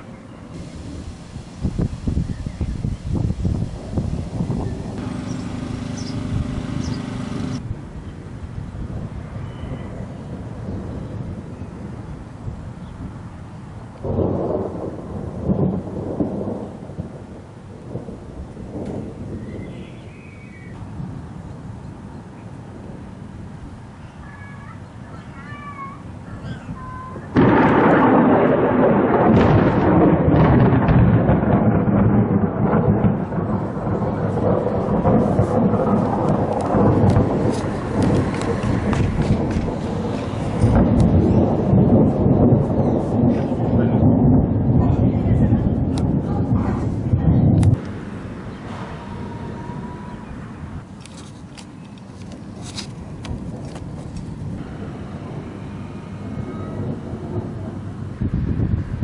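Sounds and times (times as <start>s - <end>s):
thunder rumbling: 0.0s - 24.0s, 25.5s - 59.0s.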